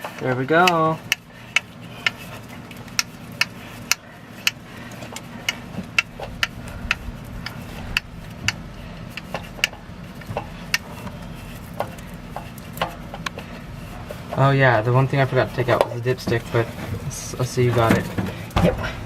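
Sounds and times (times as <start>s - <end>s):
faint low hum: 1.0s - 19.0s.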